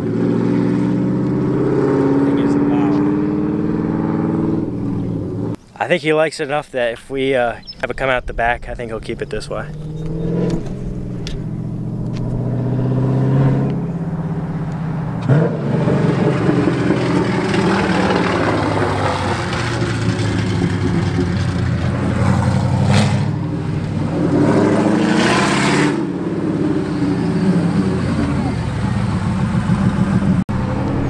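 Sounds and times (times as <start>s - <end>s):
loud car exhaust drive-by: 0.0s - 5.6s, 8.6s - 31.0s.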